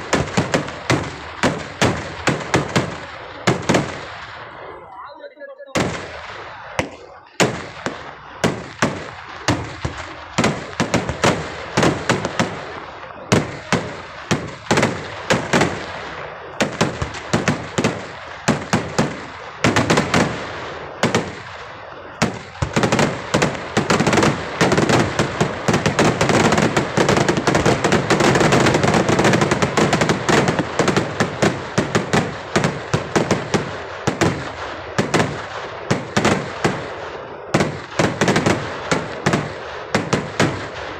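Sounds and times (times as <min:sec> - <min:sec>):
fireworks explosions: 0:00.0 - 0:40.9.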